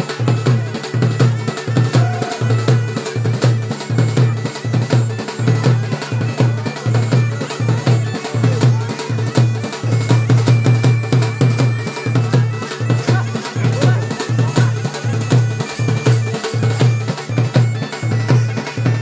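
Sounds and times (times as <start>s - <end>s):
bagpipes playing over drone: 0.0s - 19.0s
drum beating quickly: 0.0s - 19.0s.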